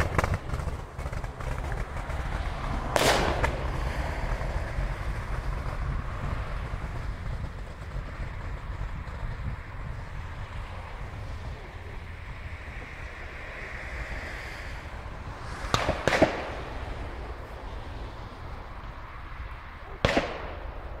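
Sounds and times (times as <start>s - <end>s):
exhaust backfiring bangs: 0.0s - 21.0s
low rumble of road traffic: 0.0s - 21.0s.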